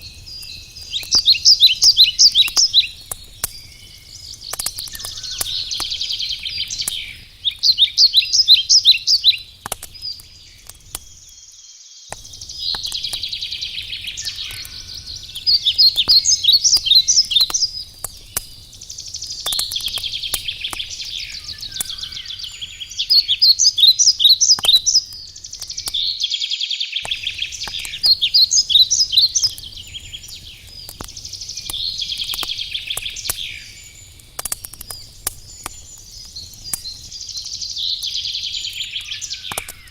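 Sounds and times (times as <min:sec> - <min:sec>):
wood fire crackling: 0:00.0 - 0:11.5, 0:12.1 - 0:26.4, 0:27.0 - 0:39.9
songbird chirping and trilling: 0:00.0 - 0:39.9.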